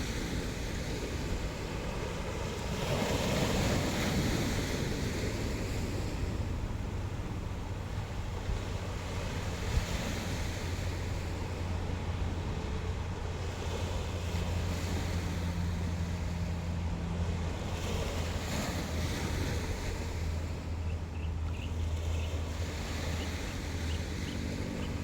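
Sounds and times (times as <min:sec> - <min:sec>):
sea waves washing ashore: 0:00.0 - 0:25.0
wind buffeting microphone: 0:00.0 - 0:25.0.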